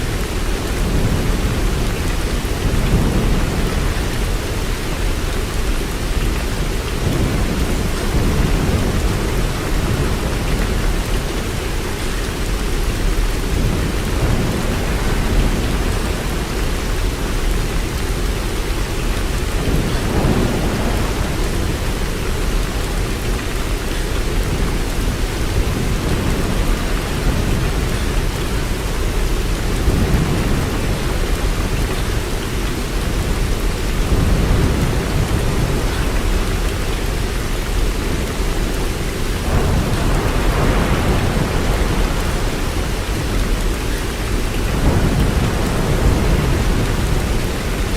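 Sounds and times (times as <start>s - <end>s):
heavy rain hissing: 0.0s - 47.9s.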